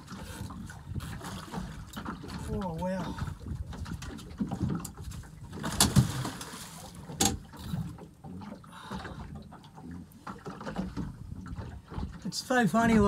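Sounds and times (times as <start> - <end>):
knocks and clunks on a boat: 0.0 - 13.0.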